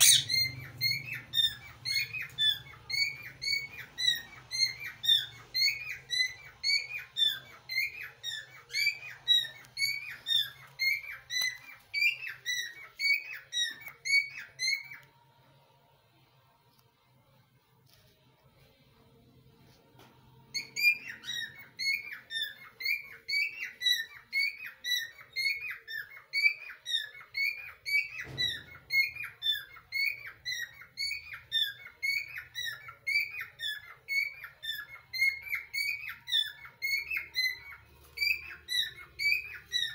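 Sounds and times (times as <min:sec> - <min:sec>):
parakeets chirping: 0:00.0 - 0:15.0, 0:20.5 - 0:39.9.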